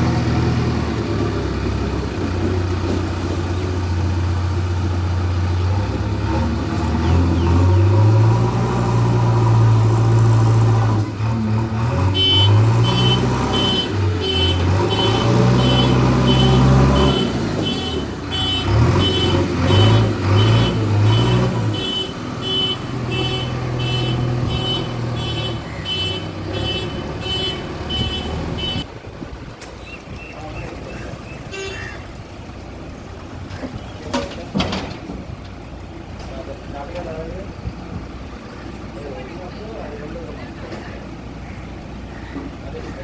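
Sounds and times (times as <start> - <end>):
heavy machinery engine running: 0.0 - 43.0.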